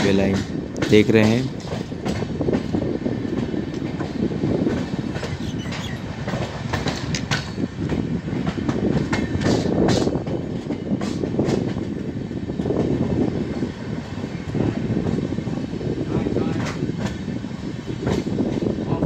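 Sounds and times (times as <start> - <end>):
wheels clacking over rail joints: 0.0 - 15.8
train wheels rumbling on rail: 0.0 - 19.0.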